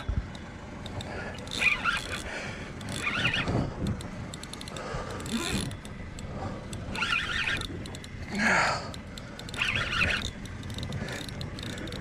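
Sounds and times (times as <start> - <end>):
fishing reel gears clicking: 0.0 - 12.0.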